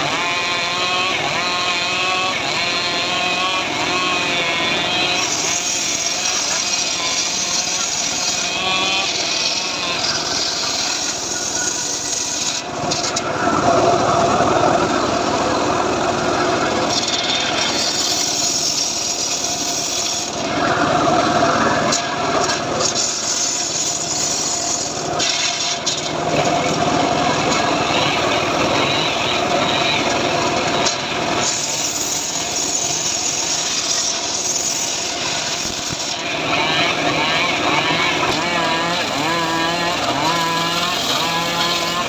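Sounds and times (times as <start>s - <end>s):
engine-driven saw cutting wood: 0.0s - 42.0s.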